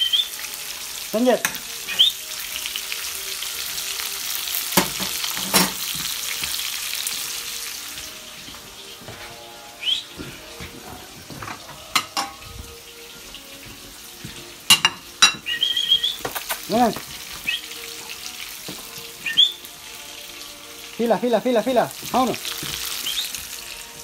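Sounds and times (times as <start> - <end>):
sausages sizzling in a frying pan: 0.0 - 24.0.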